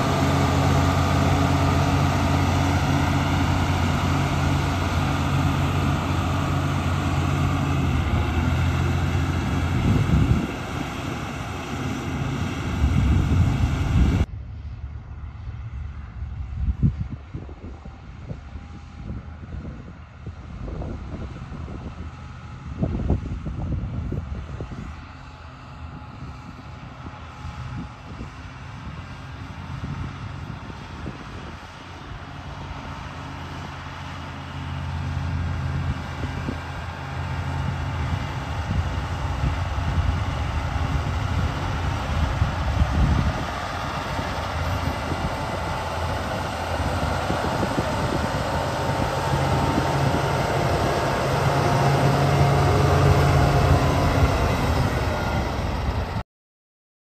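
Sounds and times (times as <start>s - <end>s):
diesel engine running: 0.0s - 56.2s.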